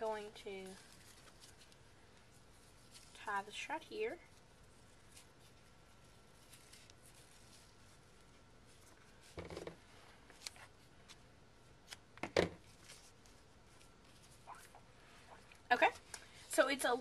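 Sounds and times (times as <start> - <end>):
ribbon and paper rustling: 0.0 - 14.8.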